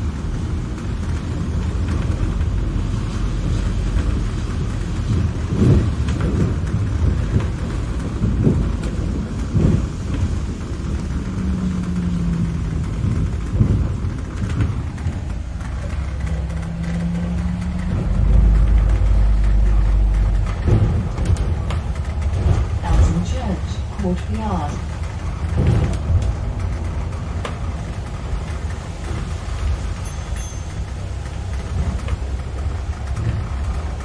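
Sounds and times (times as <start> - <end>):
bus engine and road rumble: 0.0 - 34.0
low hum: 0.0 - 34.0.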